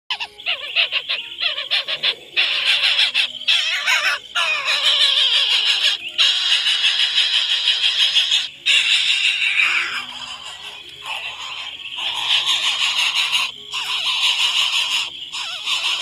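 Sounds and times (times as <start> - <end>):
birds squawking: 0.1 - 16.0.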